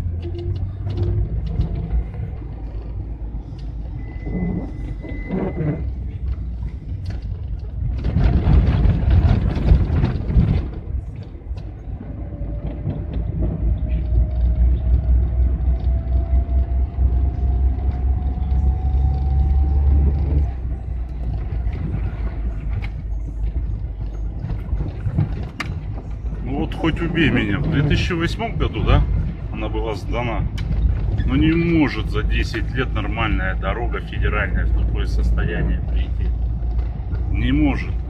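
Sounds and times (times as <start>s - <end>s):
van engine and tyre rumble: 0.0s - 38.0s.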